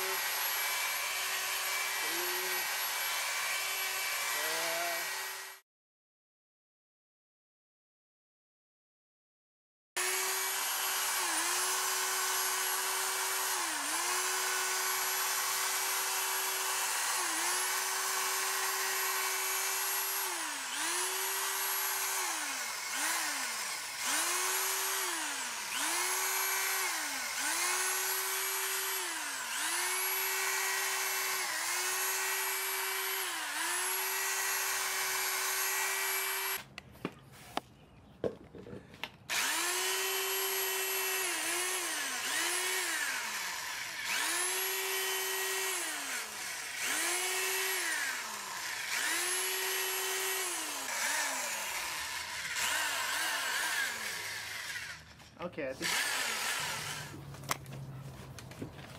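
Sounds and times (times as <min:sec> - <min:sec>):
power drill motor whine: 0:00.0 - 0:05.6, 0:10.0 - 0:36.6, 0:39.3 - 0:55.2, 0:55.8 - 0:57.6.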